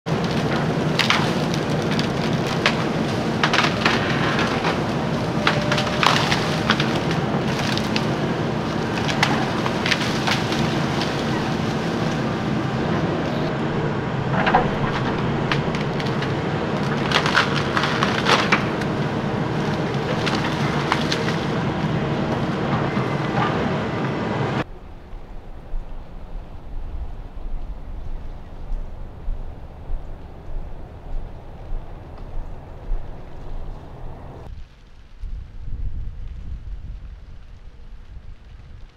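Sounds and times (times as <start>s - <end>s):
diesel engine running: 0.1s - 34.5s
icy tree limbs snapping: 0.1s - 38.9s.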